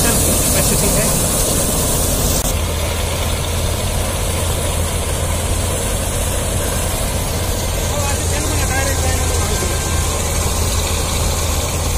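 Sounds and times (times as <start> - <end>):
combine harvester engine drone: 0.0 - 11.9.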